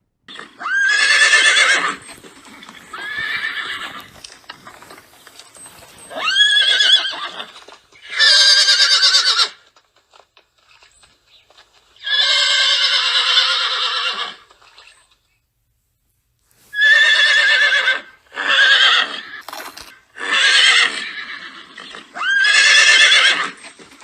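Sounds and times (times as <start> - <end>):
horses whinnying: 0.3 - 9.7, 12.0 - 14.6, 16.7 - 24.0.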